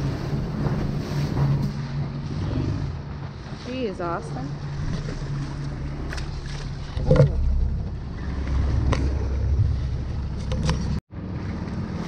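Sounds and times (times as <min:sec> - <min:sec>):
deep engine rumble: 0:00.0 - 0:12.0
motorboat engine hum: 0:00.0 - 0:12.0.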